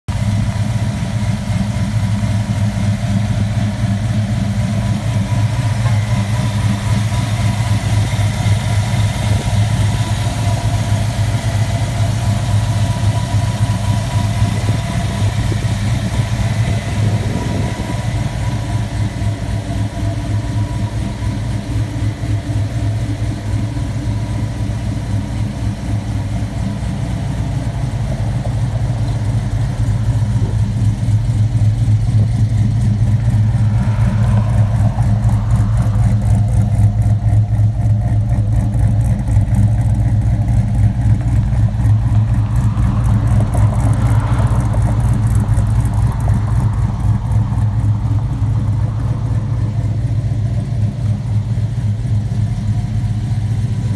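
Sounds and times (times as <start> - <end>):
supercharged engine idling: 0.0 - 53.9.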